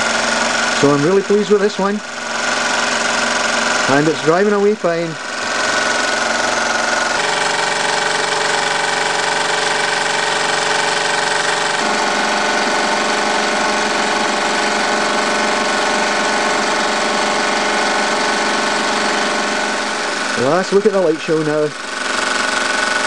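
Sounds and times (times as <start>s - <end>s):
model steam engine running: 0.0s - 23.0s.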